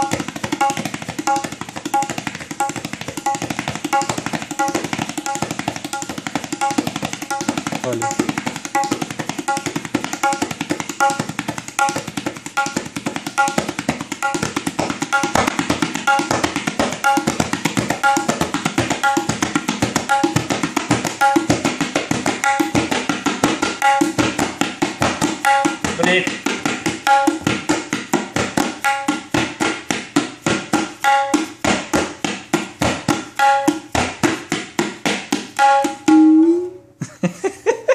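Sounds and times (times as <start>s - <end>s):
tabla drumming: 0.0s - 37.0s.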